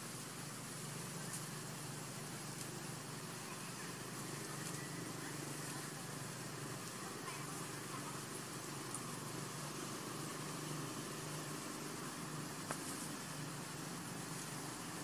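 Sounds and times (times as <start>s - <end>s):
constant low hum: 0.0s - 15.0s
even hiss: 0.0s - 15.0s.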